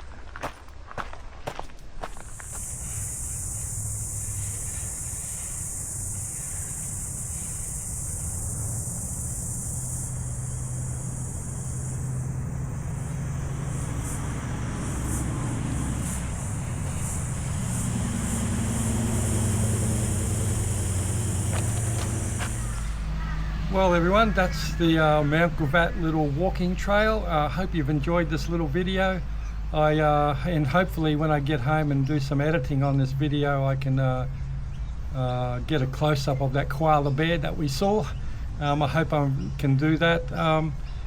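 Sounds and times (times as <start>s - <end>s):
low rumble of motor traffic: 0.0s - 41.0s
high-pitched hiss: 2.0s - 41.0s.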